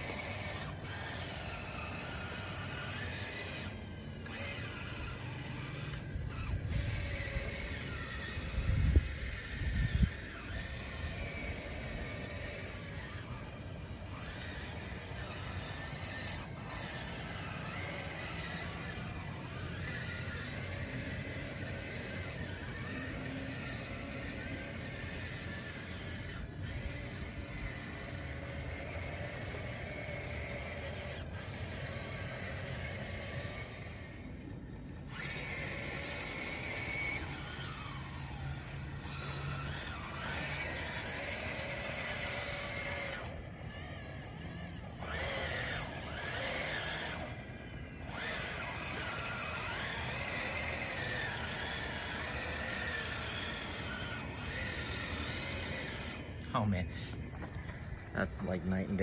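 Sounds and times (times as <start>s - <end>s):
electric motor whine: 0.0s - 59.0s
tracks grinding and scraping: 0.0s - 59.0s.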